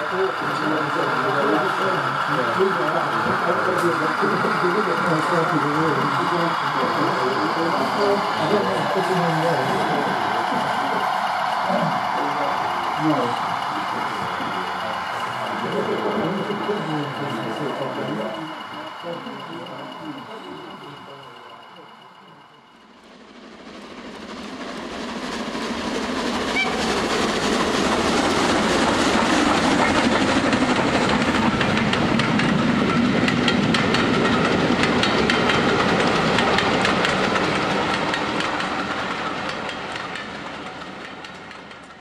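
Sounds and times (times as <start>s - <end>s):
train wheels clicking on rails: 0.0s - 42.0s.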